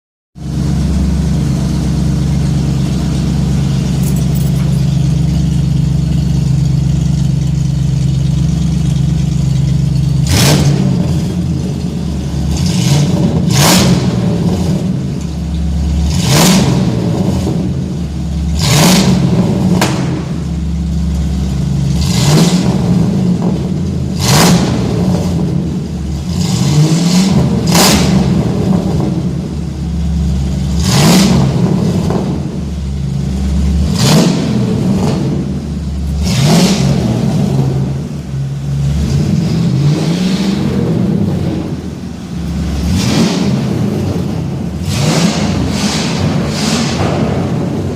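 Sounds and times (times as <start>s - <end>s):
vehicle engine idling and revving: 0.4s - 47.9s.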